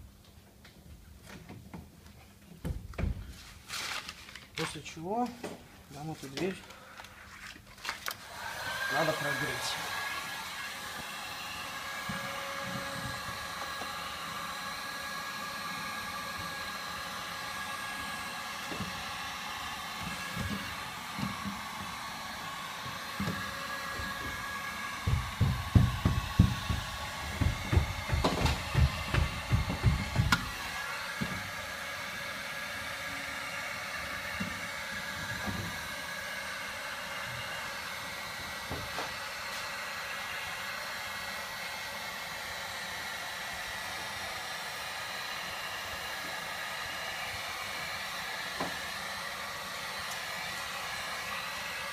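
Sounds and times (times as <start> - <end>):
heat gun fan whine and hiss: 0.0 - 51.9.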